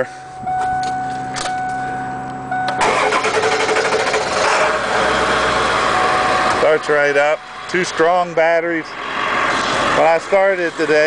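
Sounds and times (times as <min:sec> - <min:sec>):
diesel engine cranking and starting: 0:01.3 - 0:11.0.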